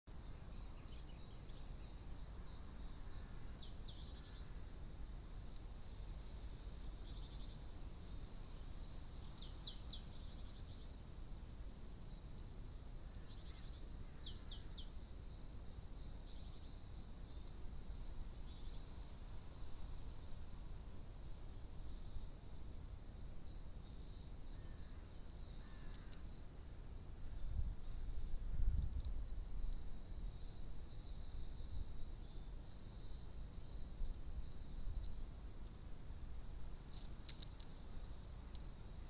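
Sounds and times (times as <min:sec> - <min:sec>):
songbirds calling: 0:00.1 - 0:39.0.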